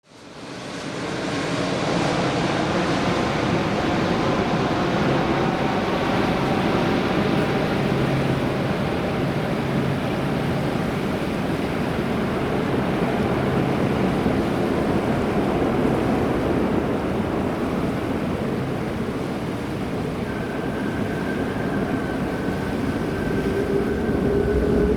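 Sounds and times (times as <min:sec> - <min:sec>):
jet engines roaring: 0:00.3 - 0:24.9.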